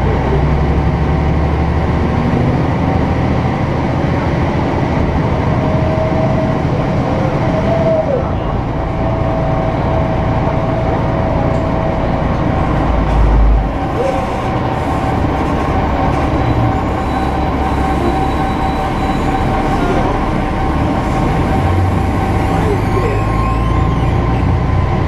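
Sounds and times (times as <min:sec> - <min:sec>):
bus engine rumbling with whine: 0:00.0 - 0:25.0.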